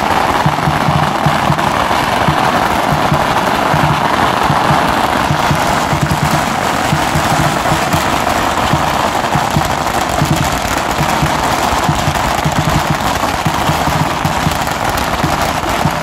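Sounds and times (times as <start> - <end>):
booming drum beat: 0.0 - 16.0
firecrackers crackling: 0.0 - 16.0.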